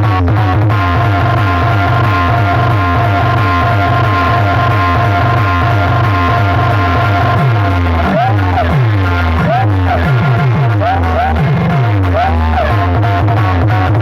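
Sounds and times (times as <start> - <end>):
fast pulsing bass line: 0.0 - 14.0
loud music on sound system: 0.0 - 14.0
held high tone: 0.6 - 11.9.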